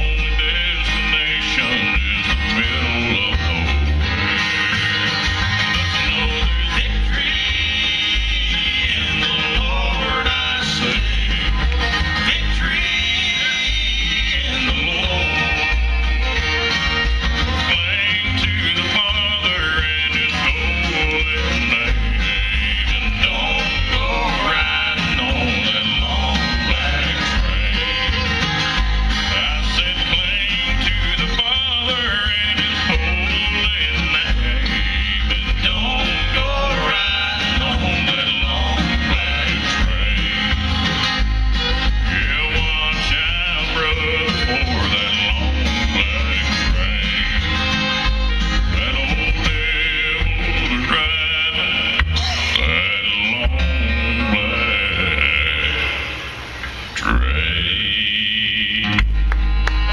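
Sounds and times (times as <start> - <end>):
acoustic string instruments: 0.0 - 59.9
bass line: 0.0 - 59.9.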